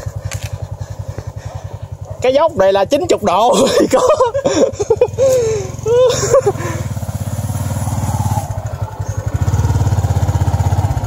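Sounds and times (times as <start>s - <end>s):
small motorcycle engine under load: 0.0s - 11.0s.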